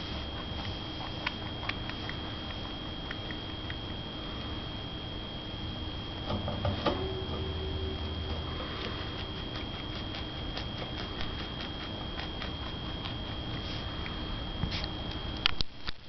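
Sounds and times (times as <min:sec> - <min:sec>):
rabbit chewing: 0:00.0 - 0:04.7, 0:07.0 - 0:16.0.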